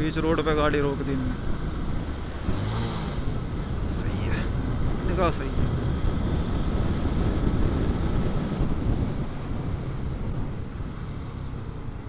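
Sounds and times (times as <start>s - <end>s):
road rumble: 0.0s - 12.0s
wind rush: 0.0s - 12.0s.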